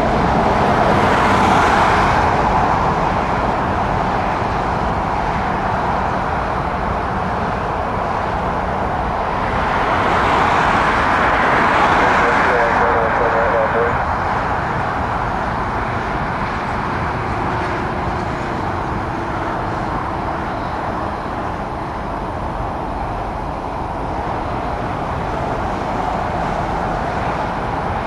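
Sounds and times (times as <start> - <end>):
distant jet engine roar: 0.0 - 28.0.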